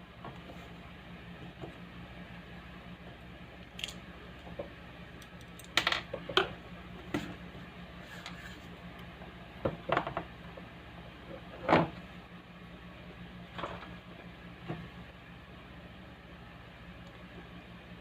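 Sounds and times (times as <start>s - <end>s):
electrical hum from speaker: 0.0s - 18.0s.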